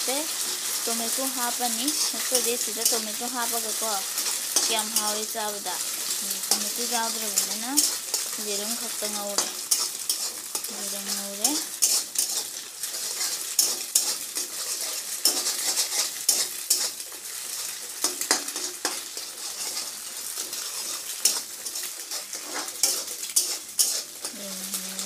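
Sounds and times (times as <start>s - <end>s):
food sizzling in oil: 0.0s - 25.0s
spatula scraping a metal pan: 0.4s - 24.4s.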